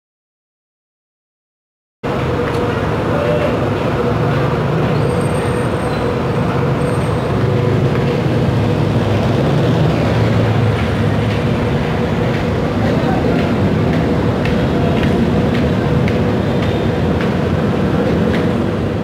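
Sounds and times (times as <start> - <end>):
light rail train rumbling past: 2.1 - 19.0.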